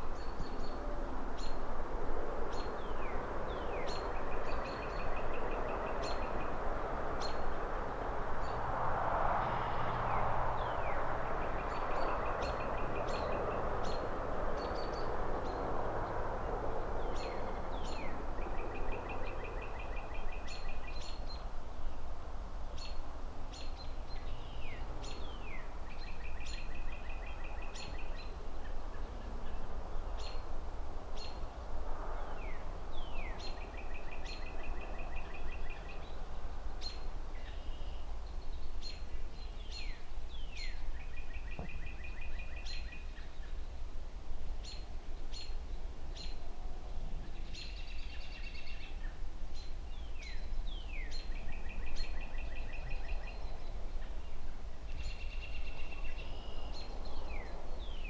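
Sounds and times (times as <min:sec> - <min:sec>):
low city rumble: 0:00.0 - 0:58.0.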